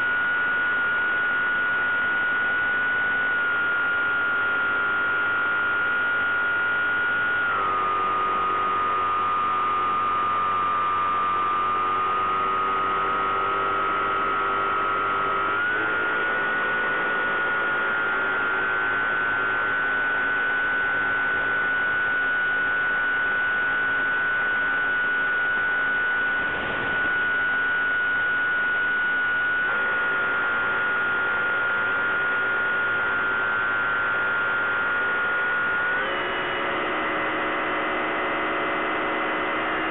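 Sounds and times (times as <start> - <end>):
electric motor and propeller humming: 0.0 - 39.9.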